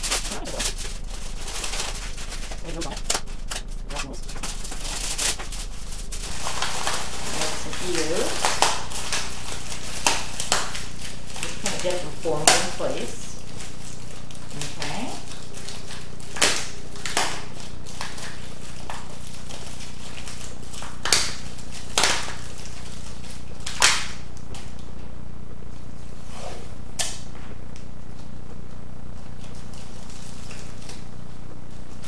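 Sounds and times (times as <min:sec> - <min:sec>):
aluminium foil crinkling: 0:00.0 - 0:25.0, 0:28.0 - 0:32.0
steady low hum: 0:00.0 - 0:32.0.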